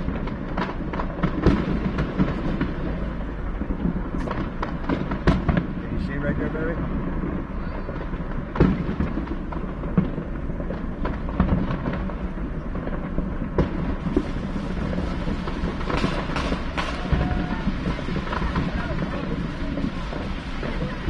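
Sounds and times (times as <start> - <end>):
distant fireworks bangs and pops: 0.0 - 21.0
steady low rumble: 0.0 - 21.0.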